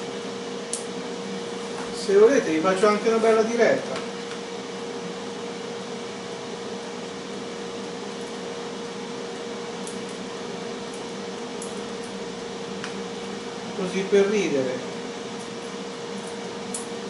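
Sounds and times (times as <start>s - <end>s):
air fryer fan whirring: 0.0s - 17.0s.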